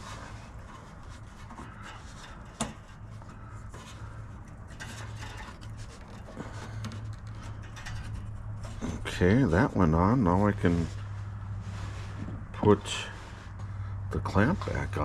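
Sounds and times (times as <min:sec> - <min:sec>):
faint rubbing and scraping: 0:00.0 - 0:15.0.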